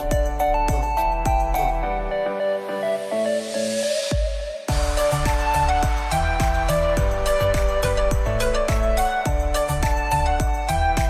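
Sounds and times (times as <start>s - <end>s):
electronic music with thumping beat: 0.0s - 11.0s.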